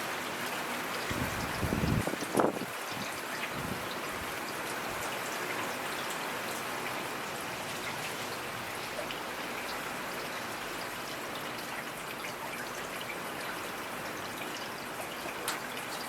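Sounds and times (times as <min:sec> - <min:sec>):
raindrops ticking on a surface: 0:00.0 - 0:16.0
steady rainfall: 0:00.0 - 0:16.0.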